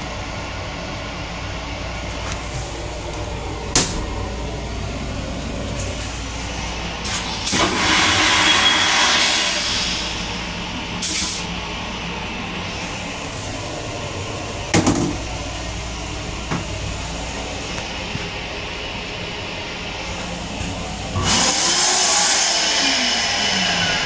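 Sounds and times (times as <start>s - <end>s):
railcar low hum: 0.0s - 24.0s
toilet flushing: 1.9s - 24.0s.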